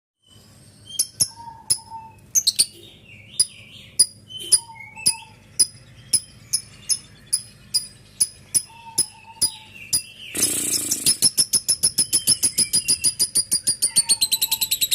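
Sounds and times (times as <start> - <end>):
lovebird chattering: 0.8 - 14.9.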